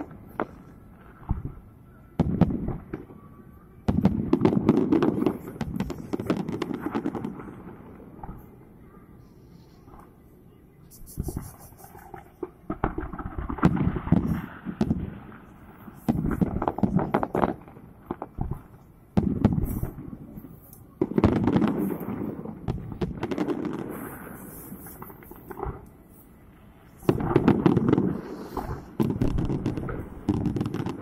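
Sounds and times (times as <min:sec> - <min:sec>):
fireworks booming and crackling: 0:00.0 - 0:08.7, 0:11.1 - 0:31.0.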